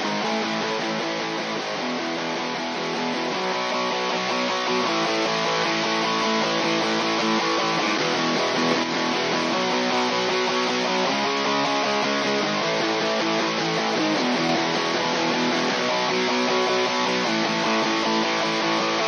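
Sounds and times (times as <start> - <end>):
electric guitars strumming: 0.0 - 19.0.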